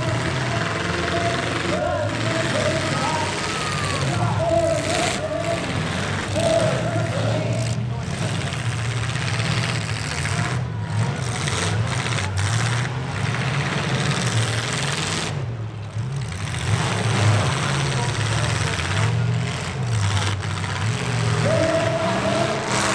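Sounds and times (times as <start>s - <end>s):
noisy roar: 0.0s - 22.9s
truck engines revving: 0.0s - 22.9s.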